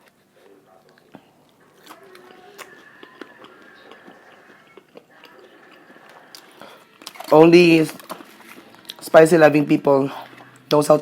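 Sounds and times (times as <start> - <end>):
person chewing food: 0.8 - 9.2, 10.1 - 10.8.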